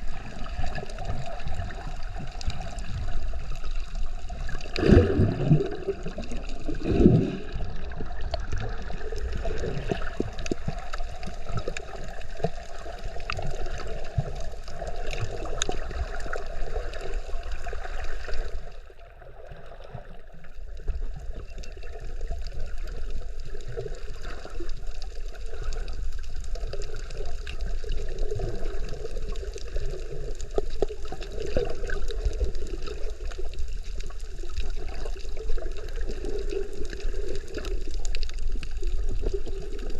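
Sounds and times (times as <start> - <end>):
small clicks and splashes: 0.0 - 39.9
water sloshing and gurgling: 0.0 - 39.9.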